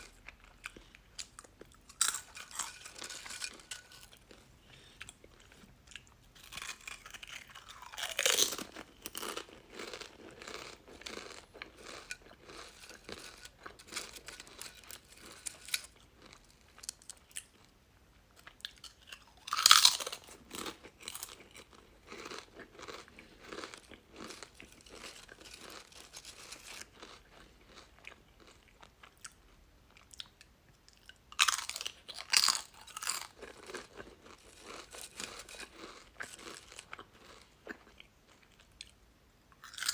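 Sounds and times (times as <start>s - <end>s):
crunching bites of chips: 0.0s - 4.4s, 5.0s - 17.7s, 18.4s - 29.4s, 30.9s - 38.7s, 39.6s - 39.9s
crackly chewing: 0.0s - 17.8s, 18.4s - 39.0s, 39.6s - 39.9s.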